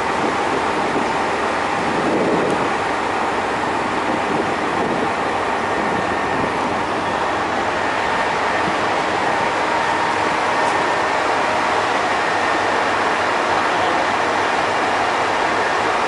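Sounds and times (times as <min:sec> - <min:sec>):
electric train rushing: 0:00.0 - 0:16.0.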